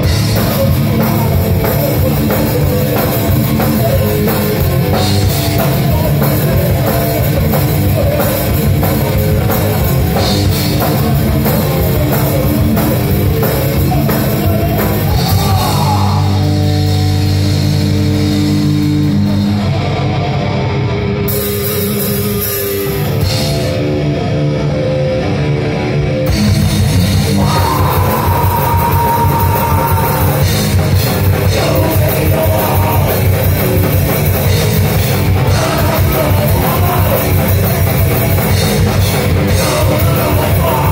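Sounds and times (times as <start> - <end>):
pounding drum kit: 0.0 - 24.4, 26.1 - 40.9
bass guitar: 0.0 - 40.9
distorted guitars: 0.0 - 40.9.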